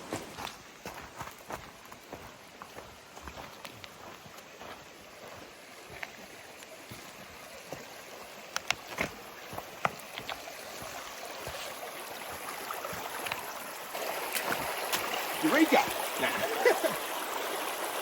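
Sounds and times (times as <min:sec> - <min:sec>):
footsteps on creek stones: 0:00.0 - 0:17.0
creek water running: 0:00.0 - 0:18.0.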